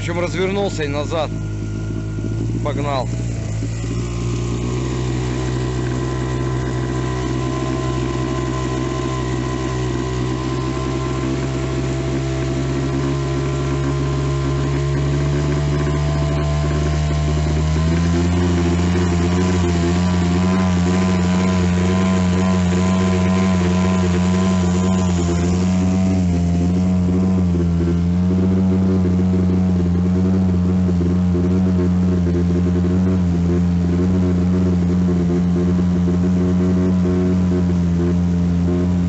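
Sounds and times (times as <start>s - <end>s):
motorboat engine running: 0.0s - 39.0s.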